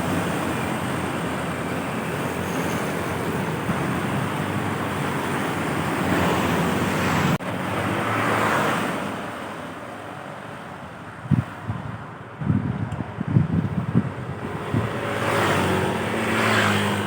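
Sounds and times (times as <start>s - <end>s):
large road vehicles passing: 0.0s - 17.0s
low wind gusts on microphone: 0.0s - 17.0s.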